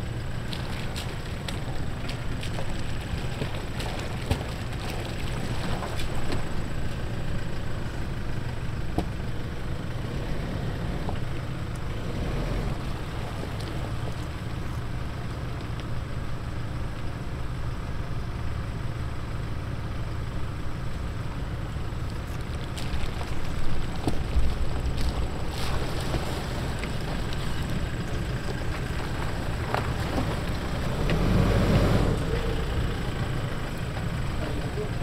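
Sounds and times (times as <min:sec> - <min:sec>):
off-road vehicle engine rumble: 0:00.0 - 0:35.0.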